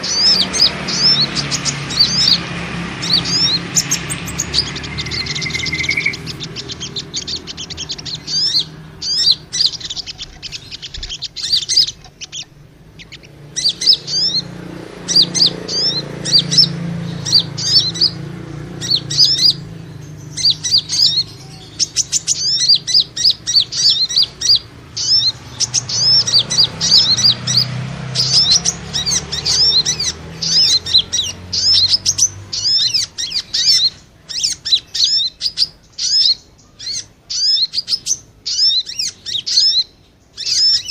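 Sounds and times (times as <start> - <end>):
small birds chirping rapidly: 0.0 - 40.9.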